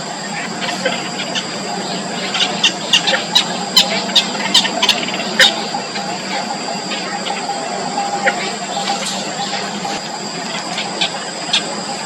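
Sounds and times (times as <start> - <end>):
steady high whine: 0.0 - 12.0
chicks squeaking: 0.2 - 12.0.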